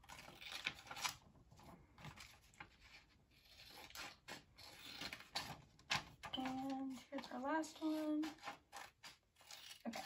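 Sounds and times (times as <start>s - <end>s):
scissors snipping paper: 0.0s - 1.3s, 2.0s - 10.0s
paper rustling: 0.0s - 10.0s.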